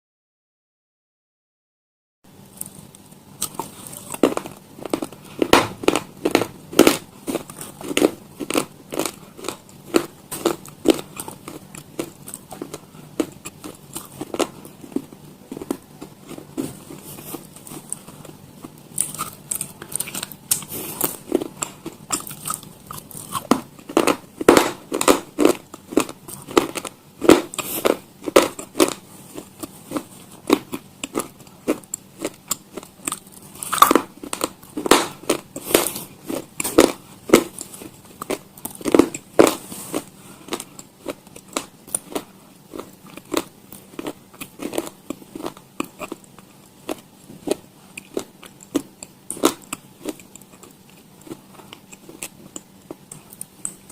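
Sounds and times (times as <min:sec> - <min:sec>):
crunchy bites and chewing: 0:02.4 - 0:53.9.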